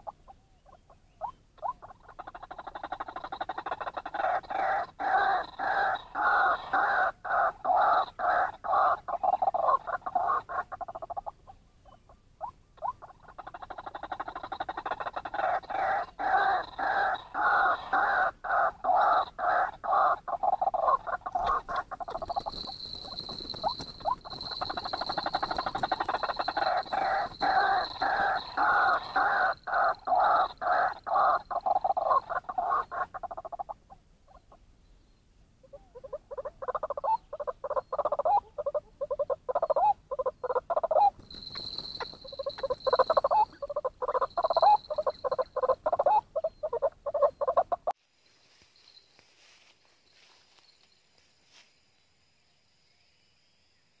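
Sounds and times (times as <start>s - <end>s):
waterhen croaking calls: 0.0s - 34.6s, 35.6s - 48.0s.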